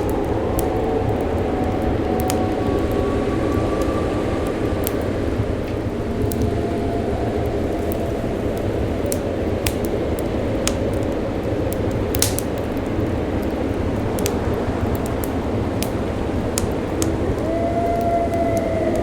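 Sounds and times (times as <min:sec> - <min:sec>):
low rumbling background: 0:00.0 - 0:19.0
wood fire crackling: 0:00.0 - 0:19.0.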